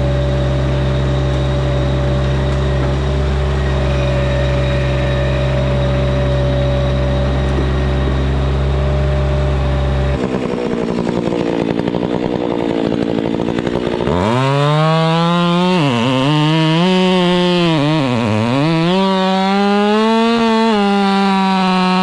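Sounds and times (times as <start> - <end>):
chainsaw idling and revving: 0.0 - 22.0
heavy engine humming: 0.0 - 22.0.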